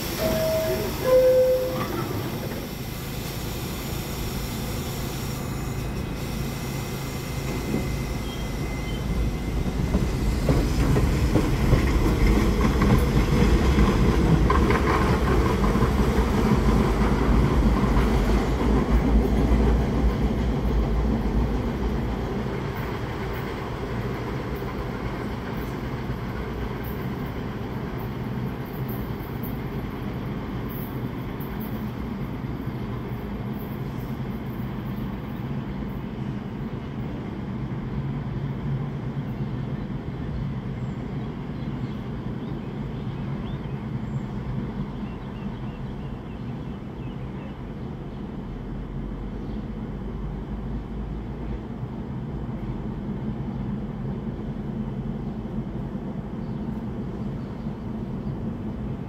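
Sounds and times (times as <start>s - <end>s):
subway train running on rails: 0.0s - 59.0s.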